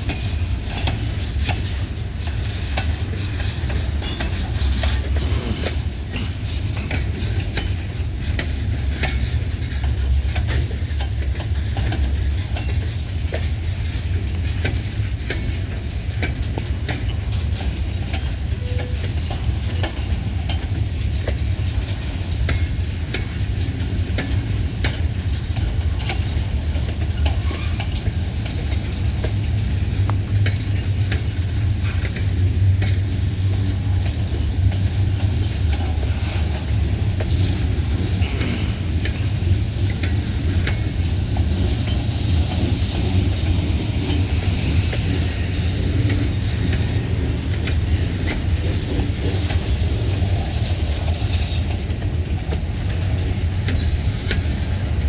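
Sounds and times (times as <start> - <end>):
diesel locomotive rumble: 0.0 - 55.0
train wheels clicking on rails: 0.0 - 55.0.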